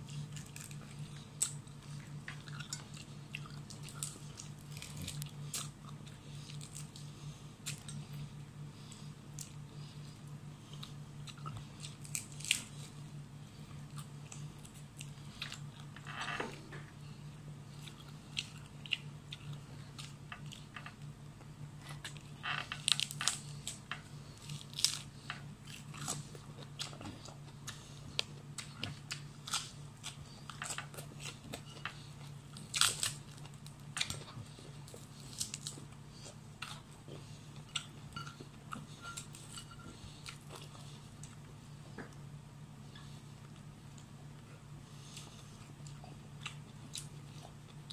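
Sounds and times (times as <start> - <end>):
person chewing and crunching food: 0.0 - 47.9
steady low hum: 0.0 - 47.9.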